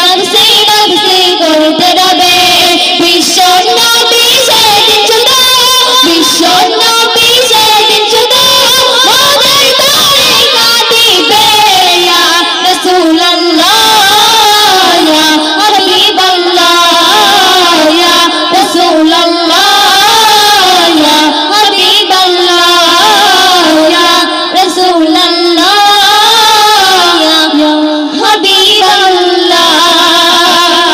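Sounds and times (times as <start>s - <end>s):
women singing through microphones: 0.0s - 30.9s.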